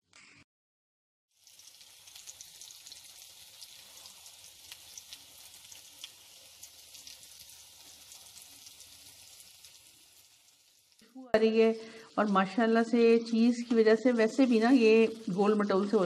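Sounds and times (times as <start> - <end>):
nuggets deep-frying in oil: 1.3 - 16.0.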